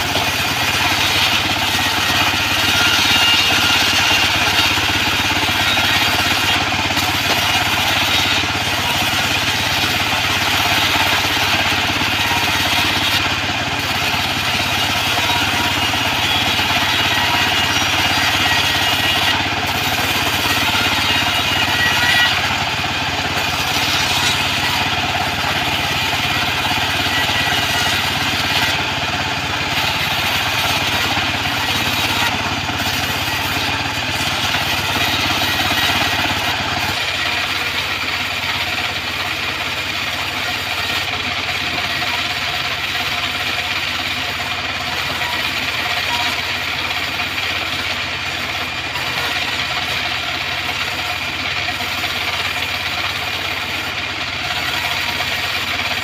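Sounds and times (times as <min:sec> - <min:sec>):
bandsaw sawing wood: 0:00.0 - 0:56.0.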